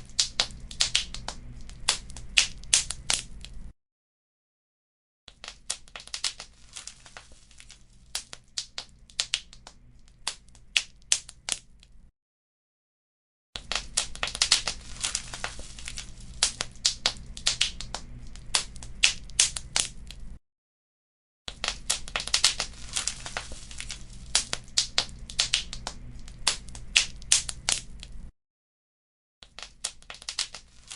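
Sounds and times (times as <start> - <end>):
wood fire crackling: 0.0 - 3.7, 5.4 - 12.0, 13.6 - 20.4, 21.5 - 28.3, 29.6 - 30.9.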